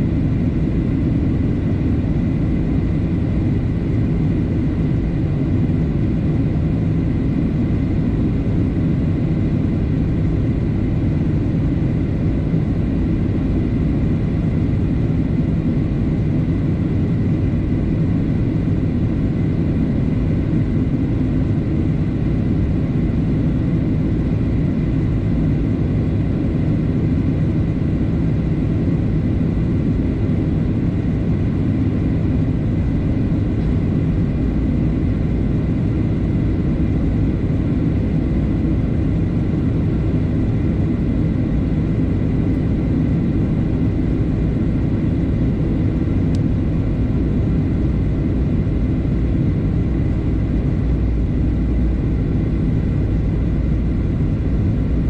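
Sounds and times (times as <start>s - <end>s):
jet engine and airflow rush: 0.0s - 55.0s.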